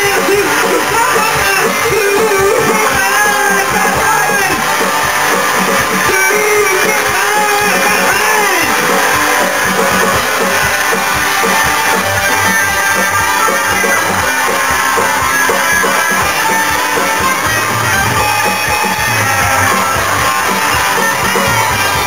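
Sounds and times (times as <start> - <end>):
rock electric guitars: 0.0 - 22.0.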